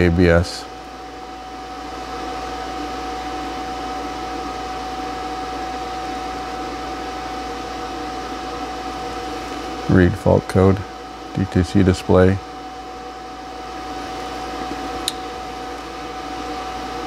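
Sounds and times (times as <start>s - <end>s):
machine whir with whine: 0.0s - 17.0s.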